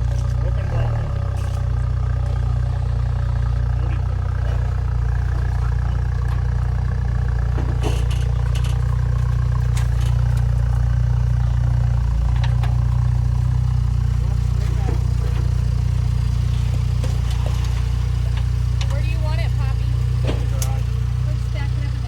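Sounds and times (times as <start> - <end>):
vehicle engine idling: 0.0 - 22.0
light clicks and clatters: 3.2 - 21.1.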